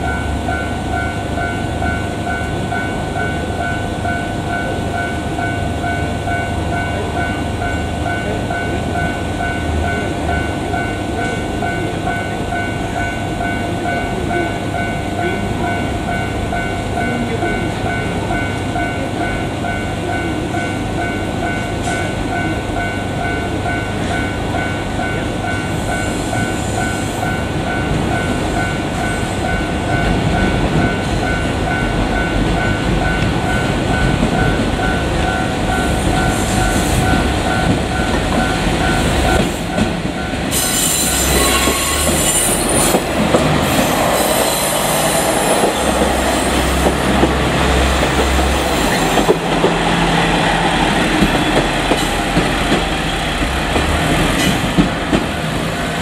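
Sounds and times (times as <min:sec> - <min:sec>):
level crossing warning bell: 0:00.0 - 0:48.6
diesel railcar engines: 0:00.0 - 0:56.0.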